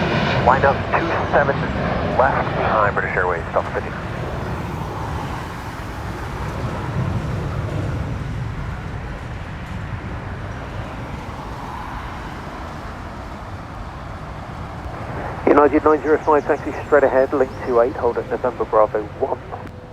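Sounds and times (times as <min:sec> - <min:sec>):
jet engines rumbling: 0:00.0 - 0:19.9.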